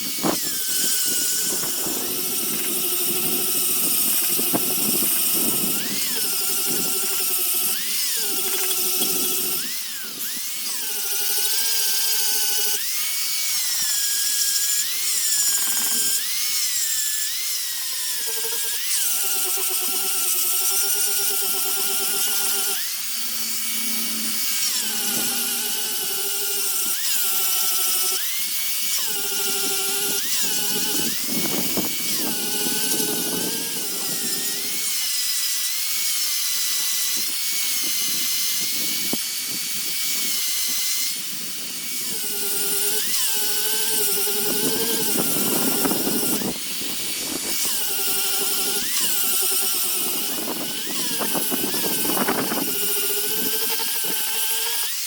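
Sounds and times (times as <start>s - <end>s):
power tool cutting wood: 0.0s - 55.0s.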